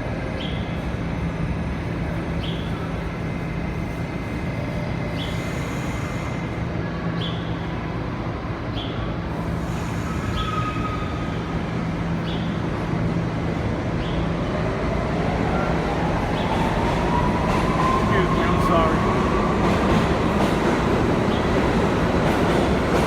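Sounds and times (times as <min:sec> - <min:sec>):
subway station rumble: 0:00.0 - 0:23.0
subway train whine: 0:00.0 - 0:23.0.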